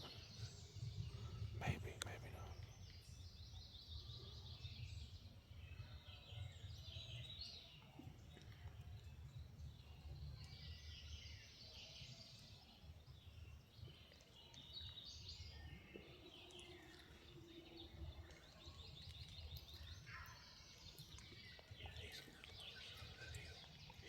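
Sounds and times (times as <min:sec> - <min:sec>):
birdsong: 0:00.0 - 0:24.0.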